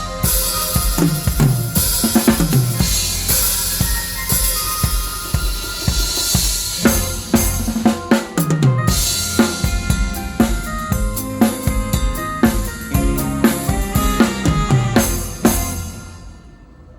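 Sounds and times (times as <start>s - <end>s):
sustained keyboard or guitar notes: 0.0s - 16.9s.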